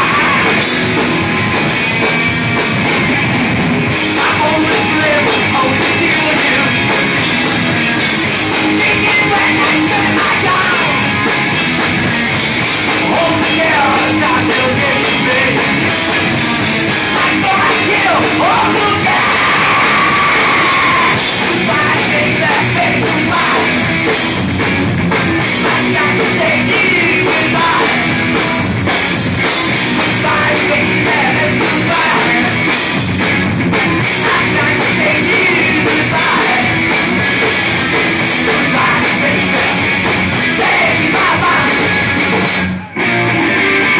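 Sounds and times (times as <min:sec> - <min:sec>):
distorted electric guitar: 0:00.0 - 0:43.9
drum kit: 0:00.0 - 0:43.9.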